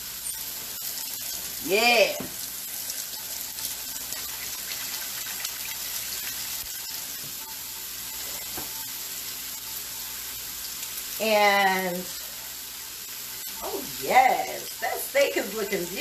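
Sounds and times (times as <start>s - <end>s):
steak sizzling in a pan: 0.0s - 16.0s
tap water running: 0.0s - 16.0s.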